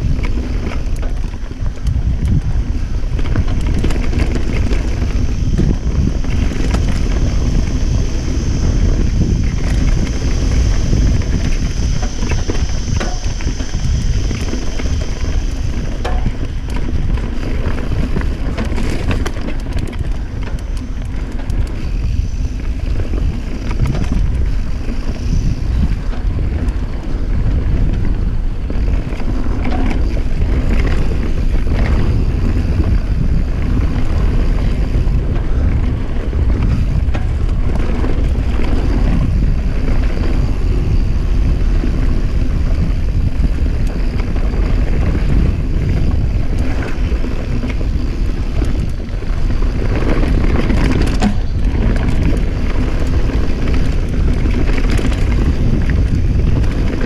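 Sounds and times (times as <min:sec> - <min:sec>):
bike rattling and knocking: 0:00.0 - 0:57.0
bike tyres rumbling on dirt: 0:00.0 - 0:57.0
wind buffeting microphone: 0:00.0 - 0:57.0.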